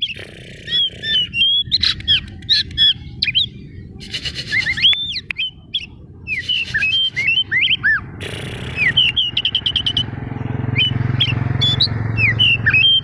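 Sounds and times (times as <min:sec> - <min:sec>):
bird song whistles: 0:00.0 - 0:03.6, 0:04.2 - 0:08.0, 0:08.7 - 0:10.1, 0:10.7 - 0:13.0.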